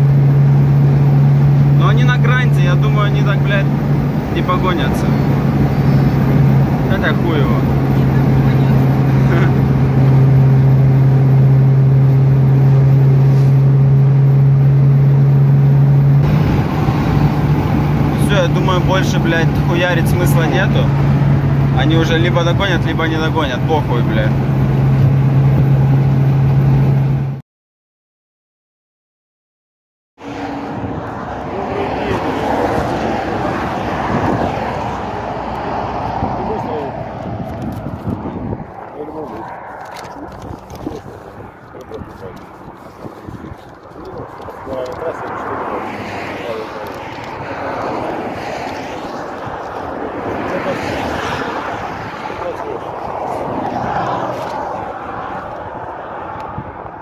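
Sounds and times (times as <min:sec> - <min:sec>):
car engine drone: 0:00.0 - 0:27.4, 0:30.2 - 0:57.0
road and wind noise: 0:00.0 - 0:27.4, 0:30.2 - 0:57.0.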